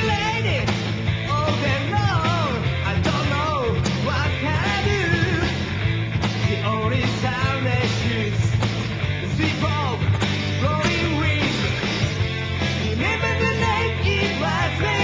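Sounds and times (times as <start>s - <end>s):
rock band music: 0.0s - 15.0s.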